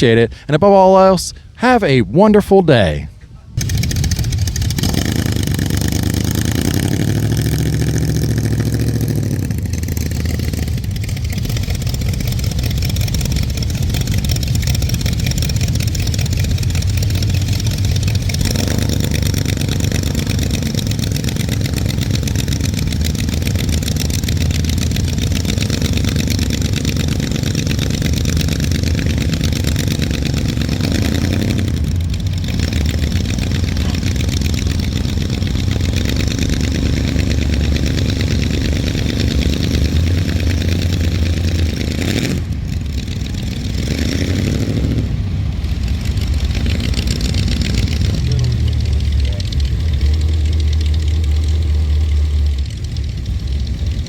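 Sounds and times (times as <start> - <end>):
car engine revving and idling: 3.1 - 54.0.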